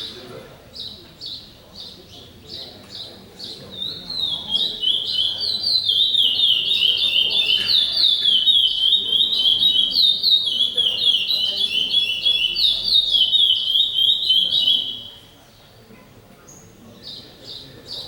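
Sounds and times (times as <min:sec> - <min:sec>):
songbird singing: 0:00.0 - 0:15.8, 0:16.4 - 0:18.0.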